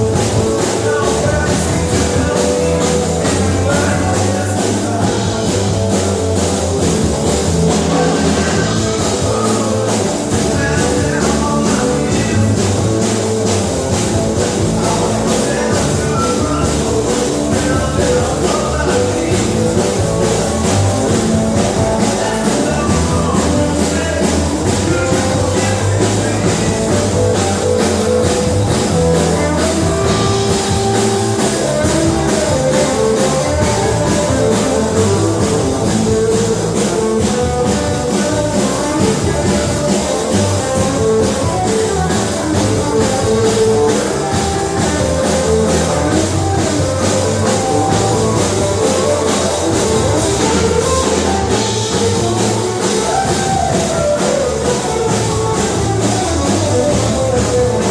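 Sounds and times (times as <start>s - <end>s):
rock music with guitar and drums: 0.0s - 57.9s.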